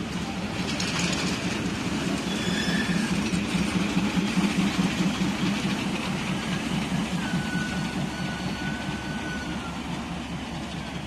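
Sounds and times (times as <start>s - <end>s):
train engine throbbing: 0.0s - 11.0s.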